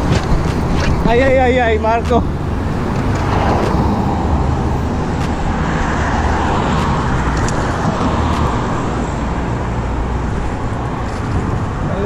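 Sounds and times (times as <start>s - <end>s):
road traffic passing: 0.0s - 12.0s
wind rumble on microphone: 0.0s - 12.0s.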